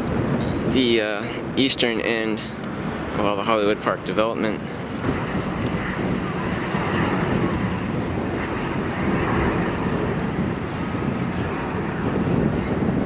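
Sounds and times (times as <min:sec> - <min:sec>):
outdoor rumbling noise: 0:00.0 - 0:13.0.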